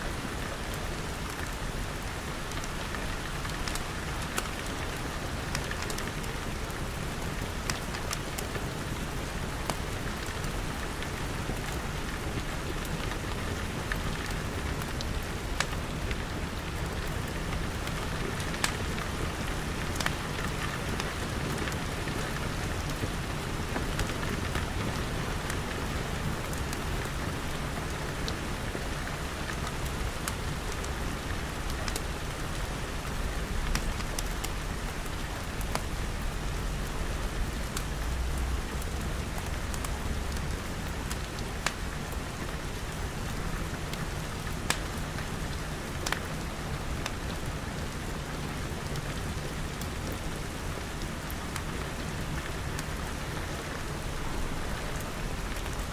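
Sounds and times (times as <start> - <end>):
wood fire crackling: 0.4 - 46.4, 47.0 - 55.9
rain pattering on glass: 0.4 - 55.9.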